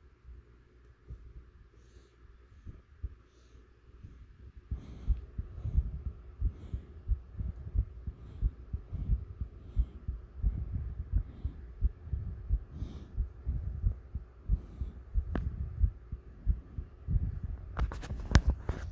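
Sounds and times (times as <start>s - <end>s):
heartbeat thumps: 1.0s - 1.5s, 2.6s - 3.3s, 3.9s - 18.9s.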